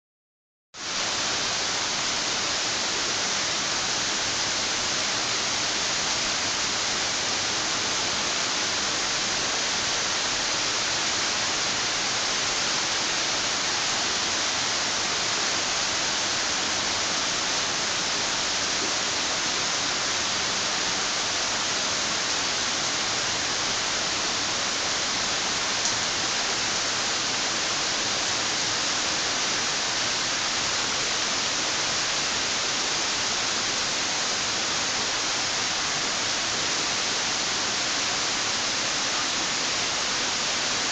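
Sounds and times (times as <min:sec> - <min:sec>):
heavy rain pouring: 0:00.8 - 0:40.9.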